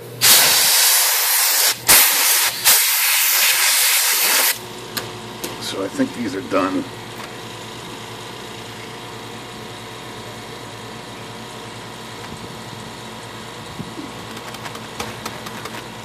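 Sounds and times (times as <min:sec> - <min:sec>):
mechanical hum of shop equipment: 0:00.0 - 0:16.0.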